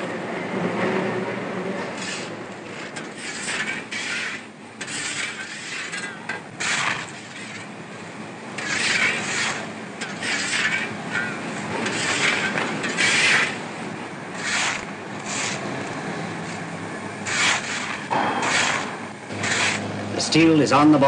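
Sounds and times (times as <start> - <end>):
harsh mechanical scraping: 0.6 - 21.0.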